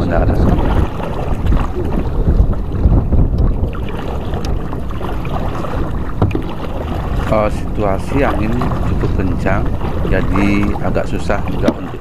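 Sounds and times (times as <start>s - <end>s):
paddle splashes: 0.0s - 12.0s
water lapping: 0.0s - 12.0s
wind rumbling on microphone: 0.0s - 12.0s.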